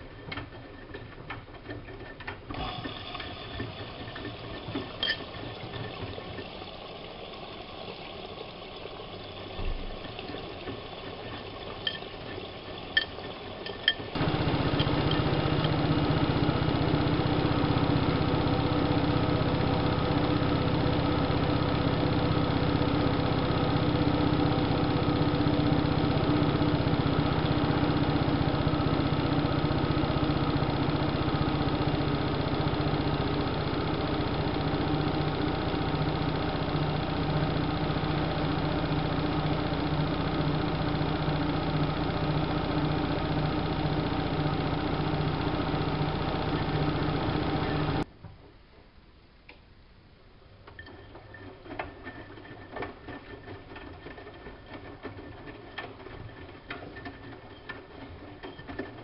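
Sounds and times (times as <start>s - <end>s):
washing machine running: 0.0s - 48.1s, 50.8s - 59.0s.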